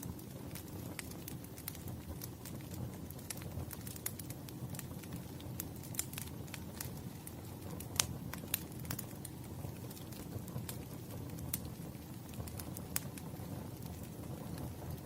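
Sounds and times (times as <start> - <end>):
fire crackles and pops: 0.0 - 15.0
firewood burning rumble: 0.0 - 15.0.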